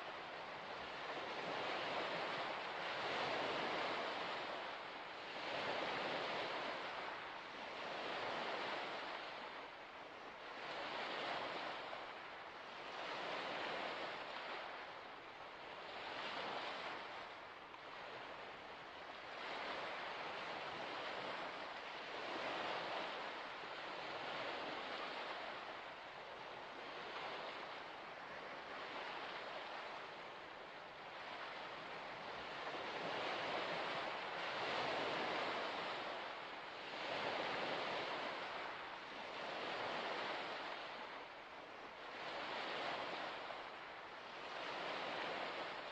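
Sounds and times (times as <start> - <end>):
waves breaking: 0.0 - 45.9.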